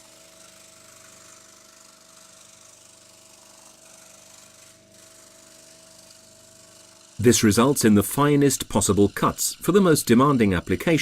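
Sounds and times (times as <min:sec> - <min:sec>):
scroll saw humming: 0:00.0 - 0:11.0.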